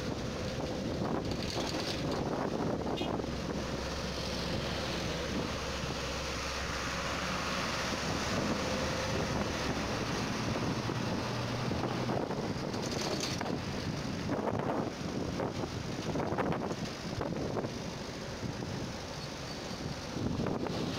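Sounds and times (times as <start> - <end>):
vehicle road and engine noise: 0.0 - 20.9
wind on microphone: 0.0 - 20.9.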